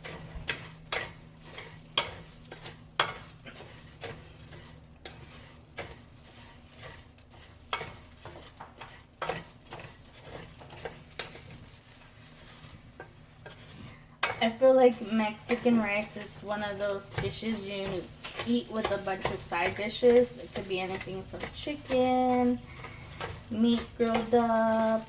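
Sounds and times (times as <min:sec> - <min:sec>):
rice and onion sizzling: 0:00.0 - 0:25.0
utensil scraping a pot: 0:00.0 - 0:25.0.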